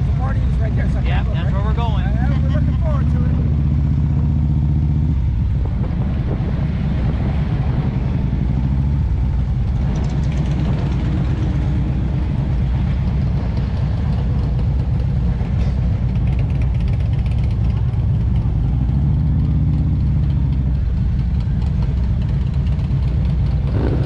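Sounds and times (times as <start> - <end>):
motorcycle engines running: 0.0 - 24.0.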